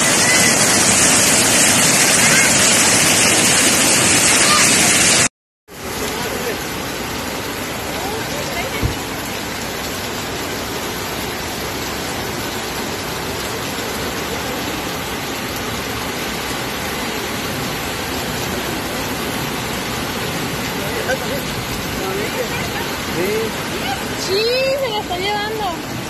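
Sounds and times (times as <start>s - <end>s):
heavy rain and floodwater rushing: 0.0s - 26.0s.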